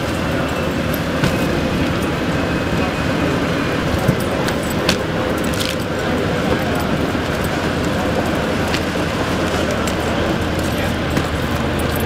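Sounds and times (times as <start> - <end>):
heavy engine idling: 0.0 - 12.0.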